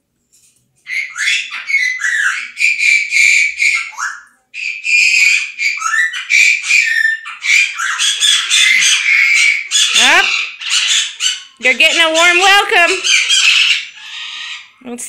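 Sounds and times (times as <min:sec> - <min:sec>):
parrot squawking: 0:00.9 - 0:14.8.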